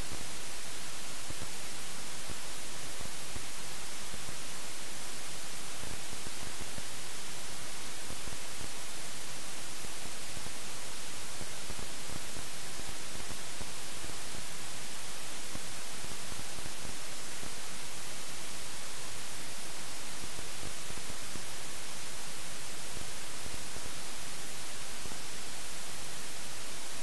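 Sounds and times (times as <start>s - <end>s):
static hiss: 0.0s - 27.0s.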